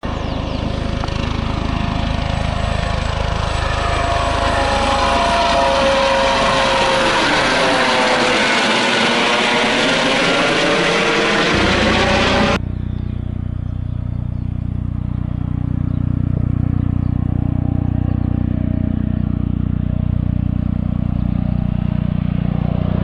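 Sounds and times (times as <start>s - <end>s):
helicopter rotor pulsing: 0.0s - 23.0s
turbine whine: 0.0s - 23.0s.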